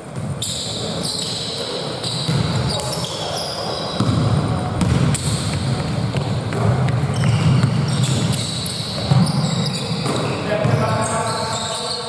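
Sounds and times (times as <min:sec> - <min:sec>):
murmur of hall and players: 0:00.0 - 0:12.0
sneakers squeaking: 0:00.0 - 0:12.0
basketball bouncing on court: 0:00.1 - 0:11.4.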